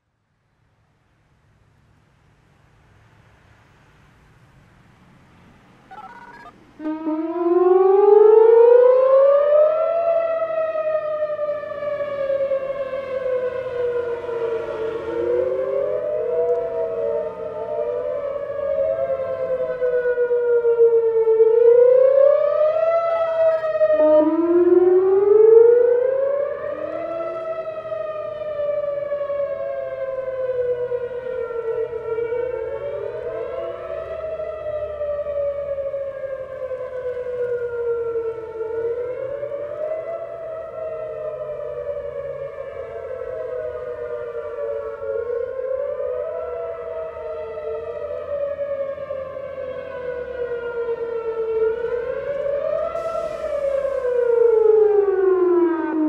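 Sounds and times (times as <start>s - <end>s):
warning siren rising and falling: 5.9s - 56.0s.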